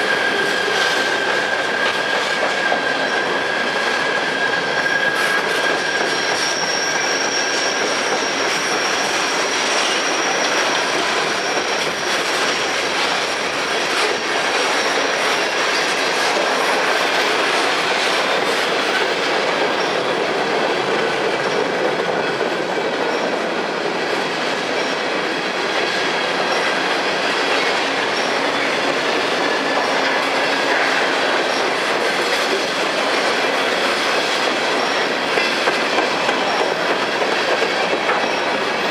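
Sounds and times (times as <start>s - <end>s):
freight cars rumbling on rails: 0.0s - 38.9s
high wheel squeal: 0.0s - 38.9s.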